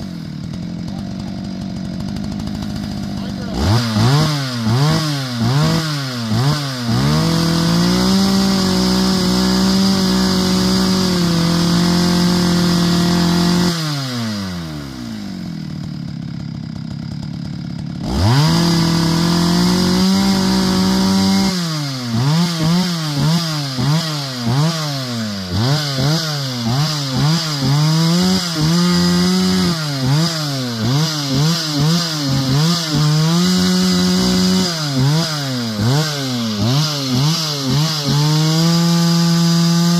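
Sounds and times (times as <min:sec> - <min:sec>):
chainsaw cutting firewood: 0:00.0 - 0:39.9.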